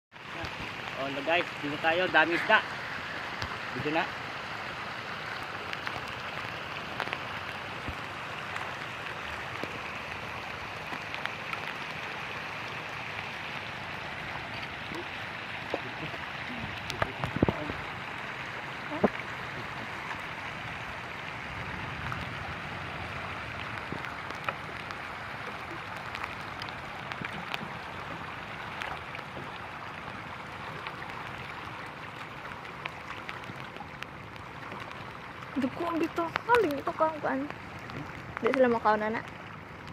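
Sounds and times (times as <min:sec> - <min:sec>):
rain falling on lake water: 0:00.1 - 0:39.9.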